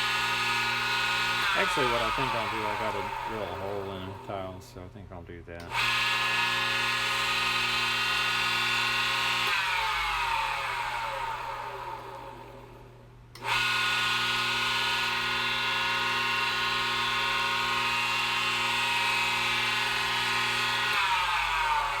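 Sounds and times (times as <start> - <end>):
power tool motor whine: 0.0 - 4.6, 5.7 - 22.0.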